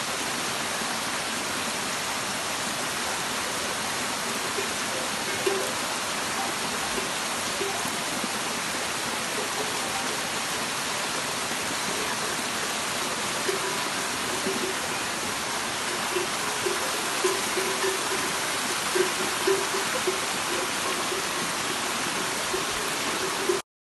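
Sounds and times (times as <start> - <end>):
waterfall rushing: 0.0 - 23.6.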